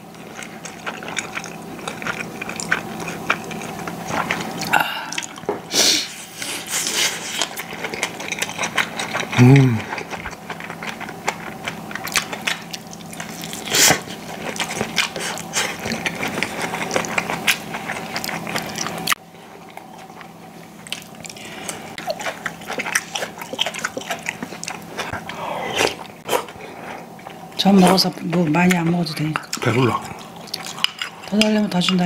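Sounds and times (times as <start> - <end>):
biting and chewing food: 0.0 - 32.0
steady background hum: 0.0 - 32.0.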